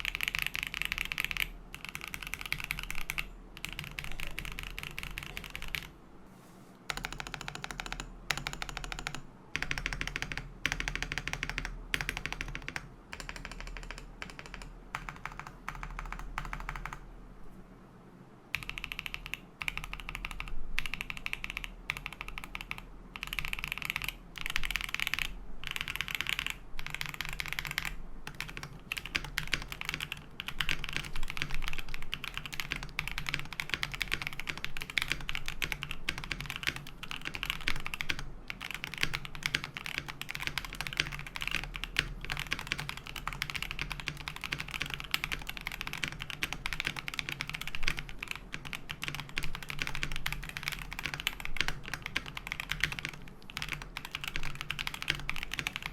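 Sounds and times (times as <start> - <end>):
fast mechanical keyboard typing: 0.0 - 5.9, 6.9 - 17.0, 18.5 - 55.9.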